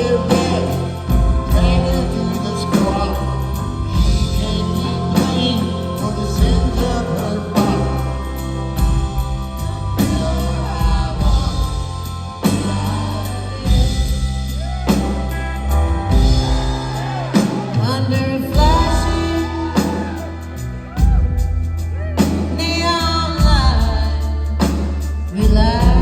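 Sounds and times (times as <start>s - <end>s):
bass guitar: 0.0s - 26.0s
drum kit: 0.0s - 26.0s
electric guitars: 0.0s - 26.0s
person singing: 0.0s - 26.0s.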